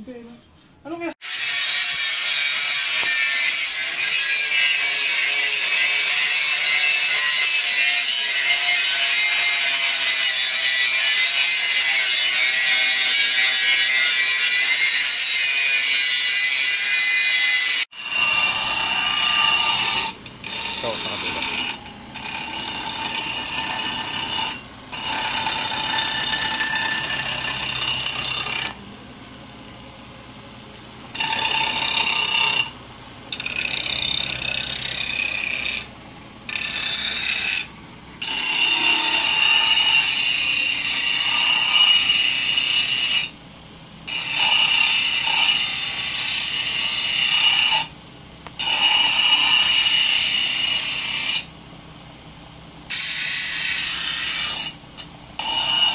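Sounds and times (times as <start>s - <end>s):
grinding wheel on steel blade: 1.2s - 28.9s, 31.1s - 35.9s, 36.5s - 43.4s, 44.1s - 51.5s, 52.9s - 55.9s.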